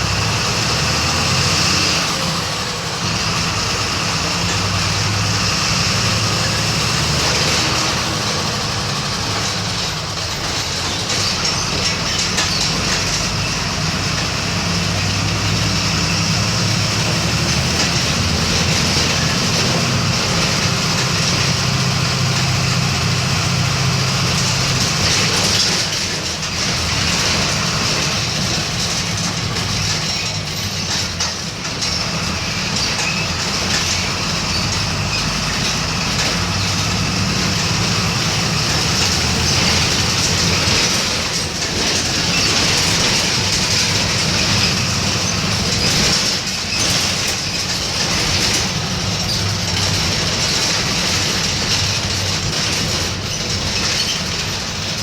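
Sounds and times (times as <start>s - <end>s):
bus engine running: 0.0s - 55.0s
road and body noise: 0.0s - 55.0s.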